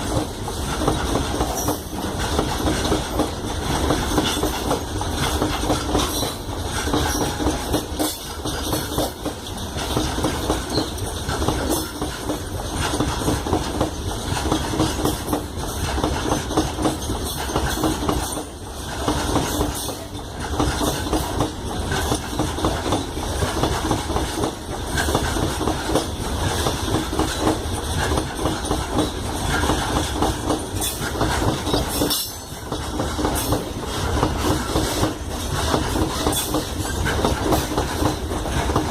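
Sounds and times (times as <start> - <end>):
freight train wheels clattering: 0.0 - 38.9.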